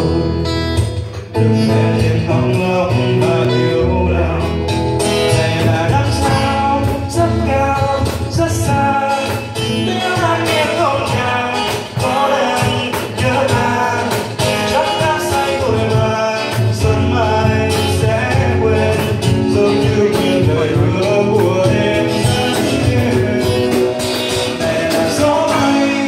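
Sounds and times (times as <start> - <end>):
acoustic guitar: 0.0 - 26.0
man singing into a microphone: 0.0 - 26.0.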